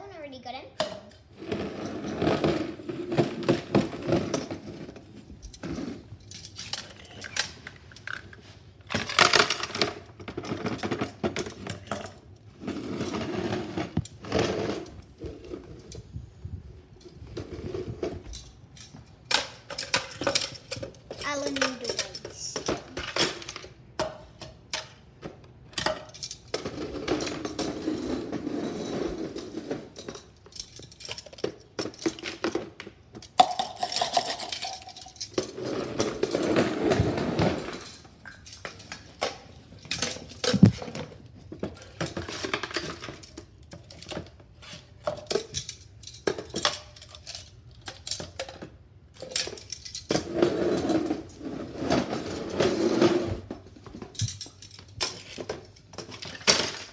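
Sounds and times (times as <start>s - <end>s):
plastic and metal clattering: 0.8s - 16.2s, 17.0s - 28.5s, 29.2s - 56.9s.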